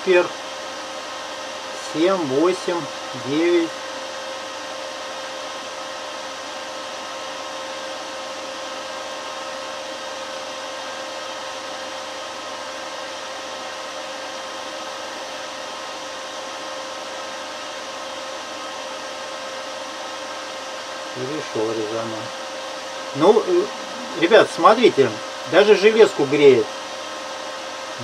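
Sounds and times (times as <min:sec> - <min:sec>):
fan-like whir: 0:00.0 - 0:28.0
steady electrical hum: 0:00.0 - 0:28.0.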